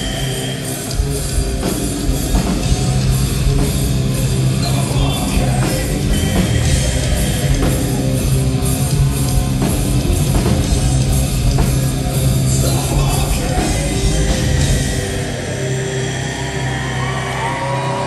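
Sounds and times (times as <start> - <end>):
distorted electric guitar: 0.0 - 18.0
pounding drum kit: 0.0 - 18.0.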